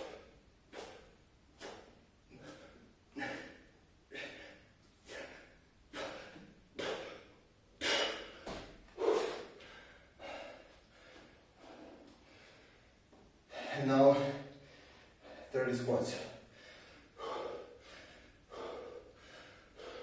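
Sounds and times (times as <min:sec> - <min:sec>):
man breathing hard: 0:00.0 - 0:15.6, 0:16.2 - 0:20.0.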